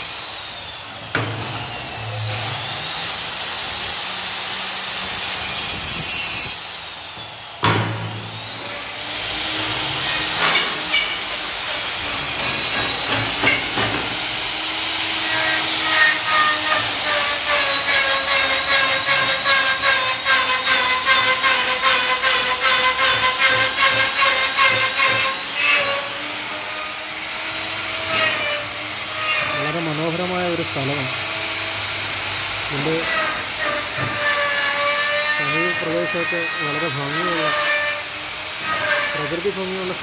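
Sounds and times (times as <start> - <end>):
circular saw cutting wood: 0.0 - 40.0
electric router whining: 0.0 - 40.0.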